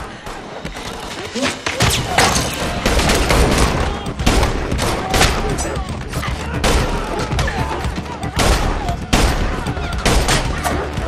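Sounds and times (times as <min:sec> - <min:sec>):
gunshots: 0:01.3 - 0:05.9, 0:06.5 - 0:11.0.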